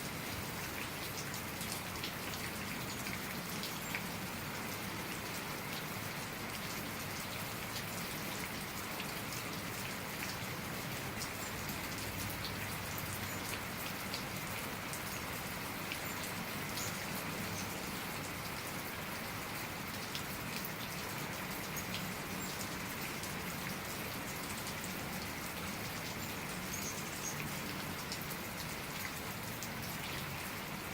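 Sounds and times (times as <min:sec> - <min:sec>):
rain hiss: 0:00.0 - 0:30.9
raindrops ticking close by: 0:00.0 - 0:30.9.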